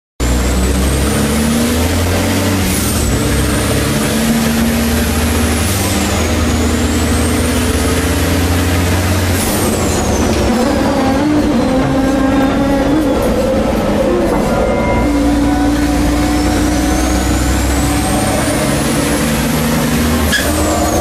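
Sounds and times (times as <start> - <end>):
diesel engine under load: 0.2 - 21.0.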